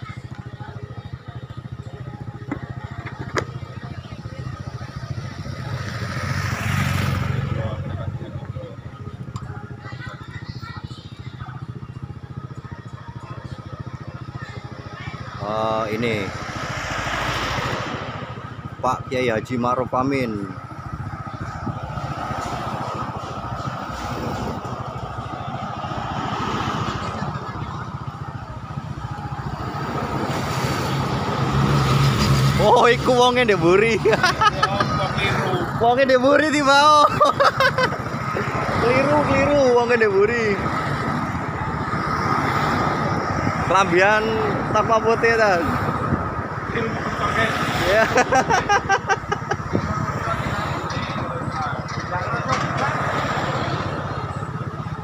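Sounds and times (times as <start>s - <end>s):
motorcycle engine idling: 0.0s - 31.8s, 32.5s - 45.6s, 48.1s - 55.0s
motorcycle passing: 0.0s - 55.0s.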